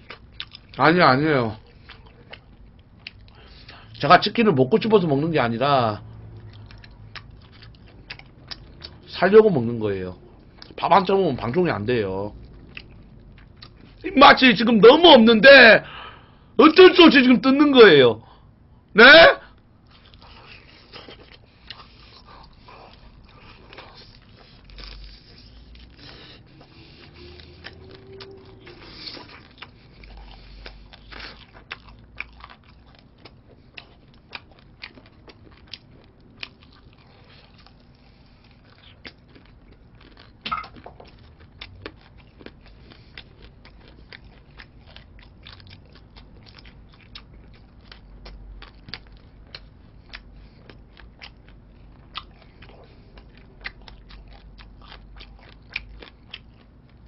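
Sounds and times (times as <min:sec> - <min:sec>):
crunching fried chicken: 0:00.0 - 0:15.2, 0:19.8 - 0:57.0.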